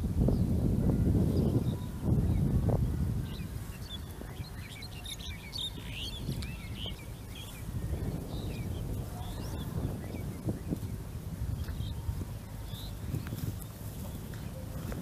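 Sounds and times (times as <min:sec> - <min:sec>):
birds chirping and twittering: 0:00.0 - 0:15.0
steady low rumble: 0:00.0 - 0:15.0.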